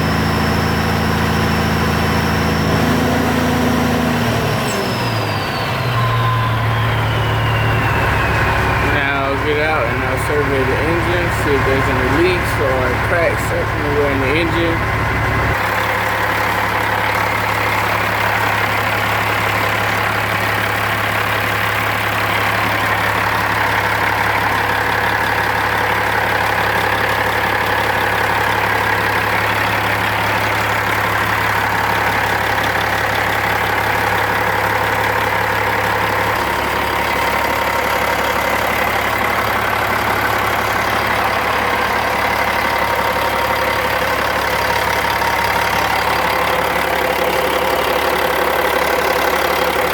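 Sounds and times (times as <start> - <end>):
engine running steadily: 0.0 - 49.9.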